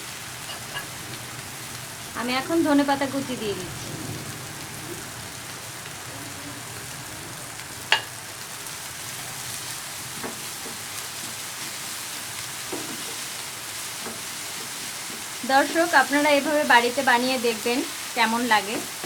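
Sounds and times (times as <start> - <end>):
egg frying in oil sizzling: 0.0 - 19.0.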